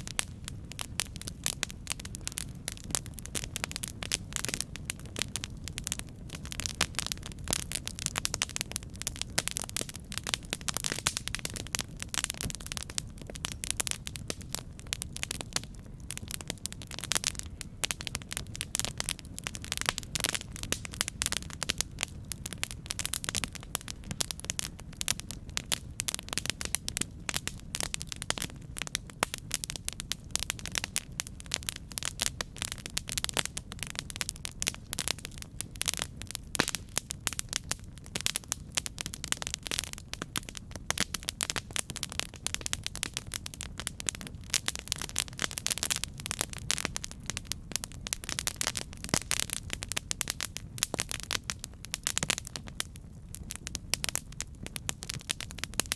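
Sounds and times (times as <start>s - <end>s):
campfire crackling and popping: 0.0s - 55.9s
low rumble of flames: 0.0s - 55.9s.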